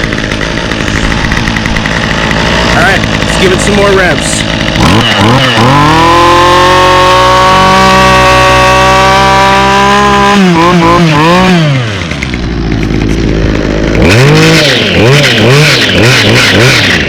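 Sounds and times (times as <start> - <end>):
string trimmer revving: 0.0 - 17.0.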